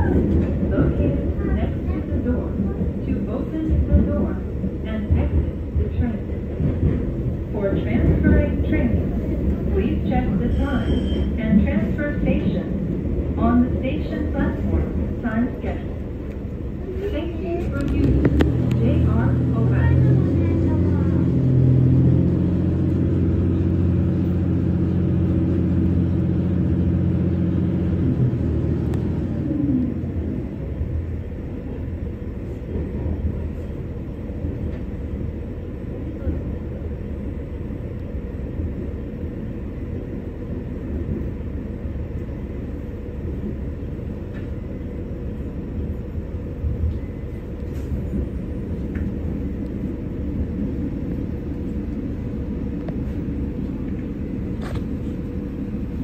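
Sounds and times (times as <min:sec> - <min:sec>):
train drive humming: 0:00.0 - 0:56.0
wheels rumbling on track: 0:00.0 - 0:56.0.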